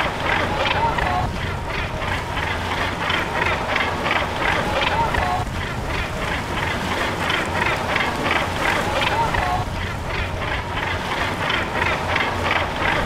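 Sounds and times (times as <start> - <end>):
boat engine rumble: 0.0 - 13.0
seabirds calling: 0.0 - 13.0.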